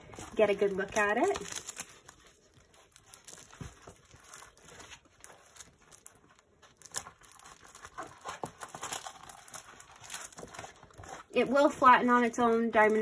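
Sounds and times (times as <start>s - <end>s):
plastic film crinkling and rustling: 0.0s - 13.0s.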